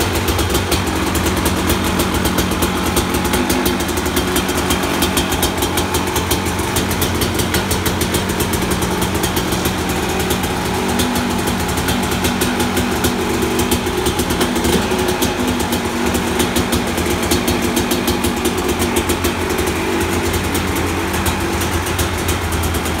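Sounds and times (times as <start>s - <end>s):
two-stroke engine idling: 0.0s - 23.0s.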